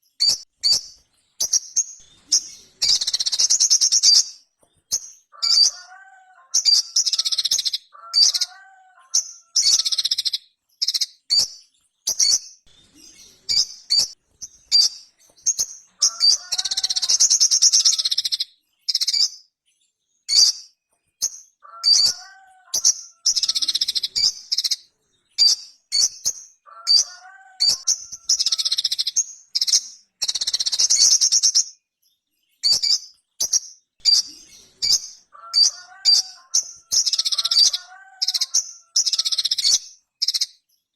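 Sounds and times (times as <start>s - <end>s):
small bird singing: 0.0s - 40.9s.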